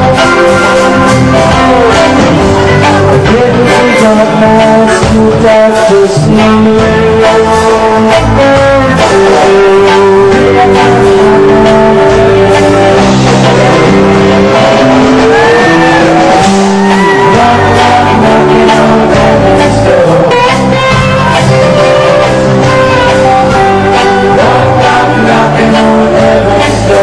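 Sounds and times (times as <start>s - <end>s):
bass guitar: 0.0s - 27.0s
drums: 0.0s - 27.0s
lead guitar bending notes: 0.0s - 27.0s.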